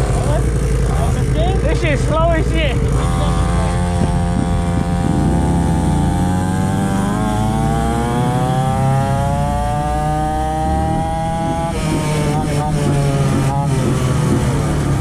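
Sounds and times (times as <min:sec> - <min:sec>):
mini dirt bike engine buzzing: 0:00.0 - 0:15.0.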